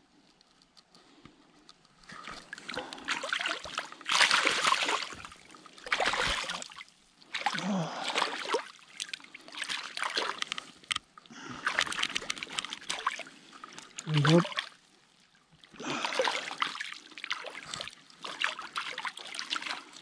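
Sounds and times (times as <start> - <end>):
water splashing and sloshing: 1.7 - 20.0.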